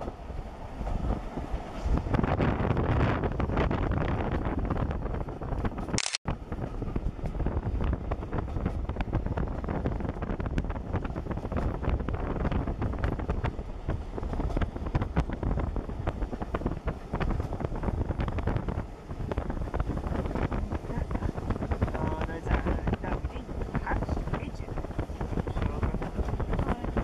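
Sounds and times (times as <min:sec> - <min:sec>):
train coaches rumbling on track: 0:00.0 - 0:27.0
wind buffeting microphone: 0:00.0 - 0:27.0.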